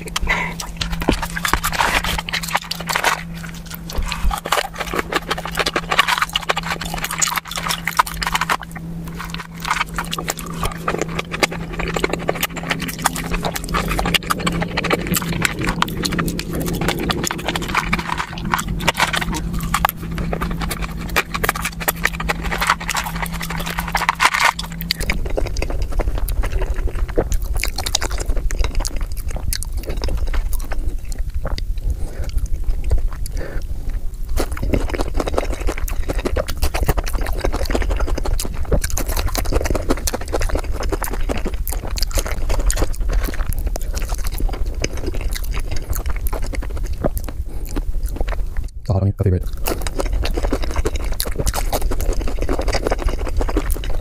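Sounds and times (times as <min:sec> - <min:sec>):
chewing and wet mouth sounds: 0:00.0 - 0:54.0
steady low hum: 0:00.0 - 0:54.0.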